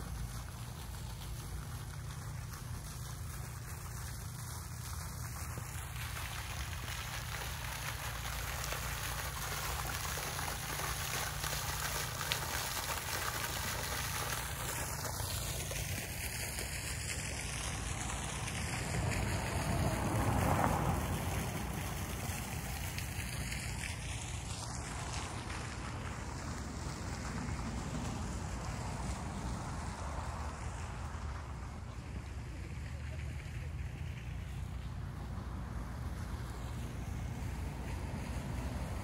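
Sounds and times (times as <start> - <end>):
fountain water splashing: 0.0 - 39.0.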